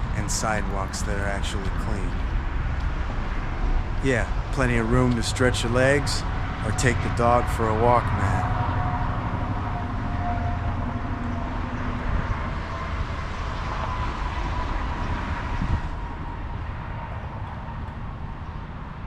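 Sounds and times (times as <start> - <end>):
vehicle passing: 0.0 - 18.8
vehicle traffic rumble: 0.0 - 19.0.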